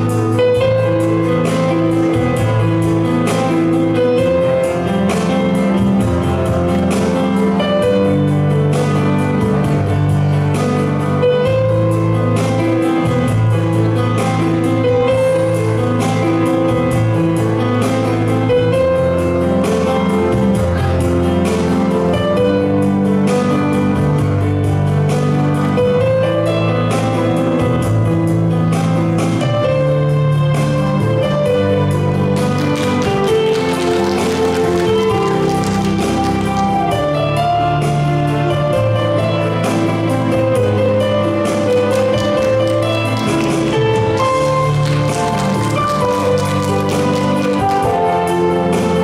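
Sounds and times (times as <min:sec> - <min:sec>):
instrumental backing music: 0:00.0 - 0:49.0.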